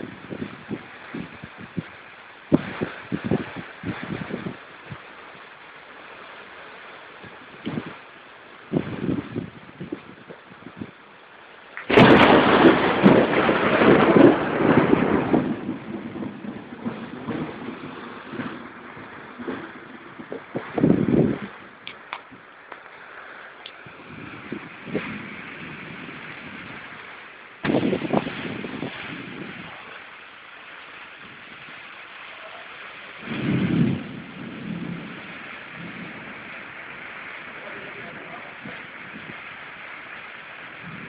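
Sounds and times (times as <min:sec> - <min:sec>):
thunder clap rolling: 0:00.0 - 0:05.1, 0:08.7 - 0:11.0, 0:11.8 - 0:30.2, 0:31.0 - 0:41.0
rain hissing: 0:00.0 - 0:41.0.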